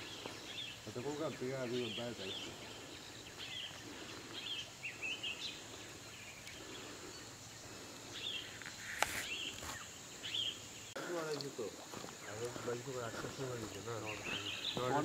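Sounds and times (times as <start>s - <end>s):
birds chirping: 0.0s - 15.0s
faint outdoor hiss: 0.0s - 15.0s.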